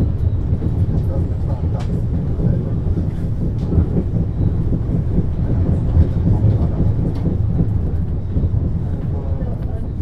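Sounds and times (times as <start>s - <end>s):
suspension railway car rumbling: 0.0s - 10.0s.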